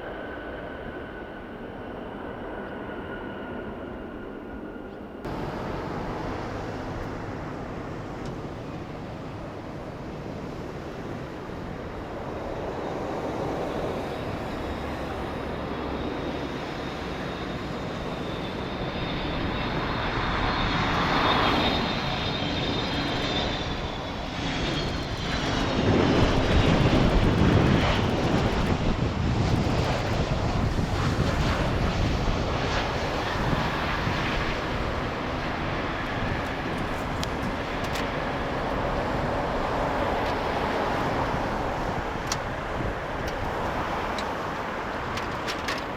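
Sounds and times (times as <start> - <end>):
high engine whine: 0.0 - 45.9
jet engines roaring: 0.0 - 45.9.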